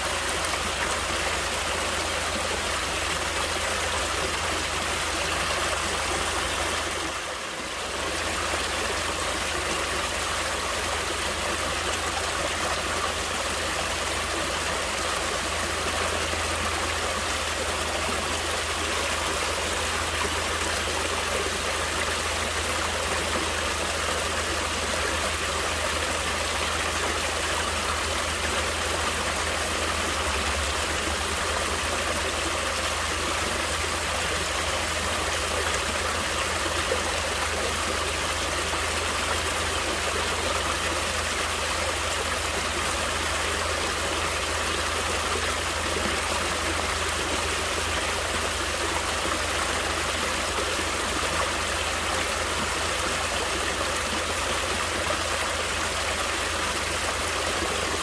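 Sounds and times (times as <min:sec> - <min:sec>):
stream water flowing over rocks: 0:00.0 - 0:58.0.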